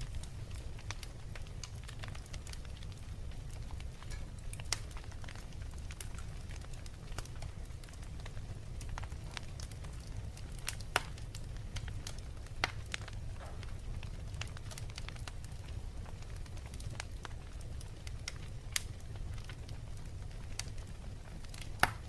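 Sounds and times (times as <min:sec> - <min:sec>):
low rumble of flames: 0:00.0 - 0:22.0
wood fire crackling: 0:00.0 - 0:22.0.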